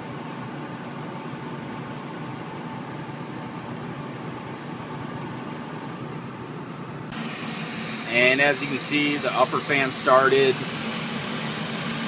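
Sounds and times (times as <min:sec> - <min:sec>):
furnace blower fan whooshing: 0:00.0 - 0:12.0.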